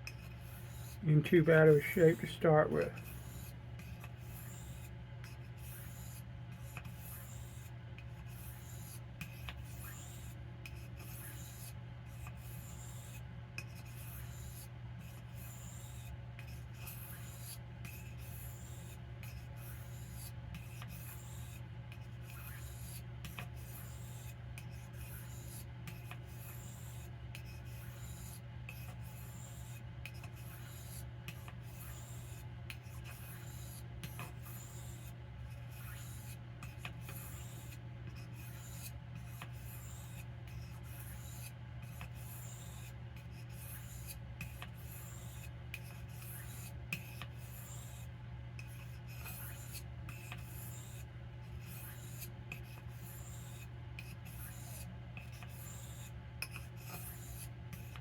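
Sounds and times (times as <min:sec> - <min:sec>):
knife stroking on whetstone: 0:00.0 - 0:58.0.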